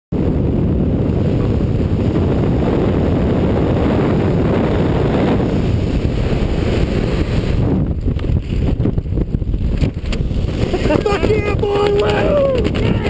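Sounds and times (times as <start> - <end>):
airplane engine and wind rush: 0.1 - 13.0
wind buffeting microphone: 0.1 - 13.0.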